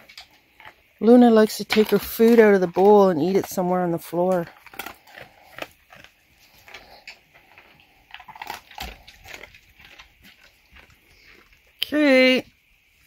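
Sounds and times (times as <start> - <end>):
dog chewing food: 0.0 - 11.8.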